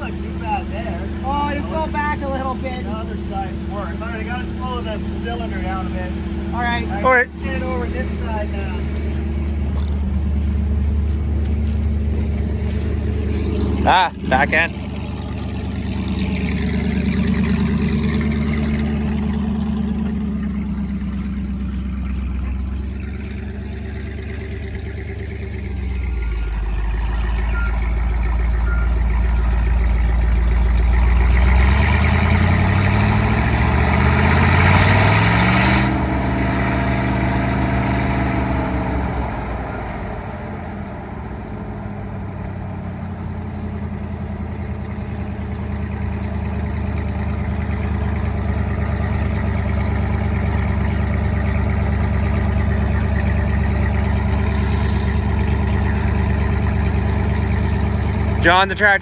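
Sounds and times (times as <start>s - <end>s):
tractor engine revving: 0.0s - 59.0s.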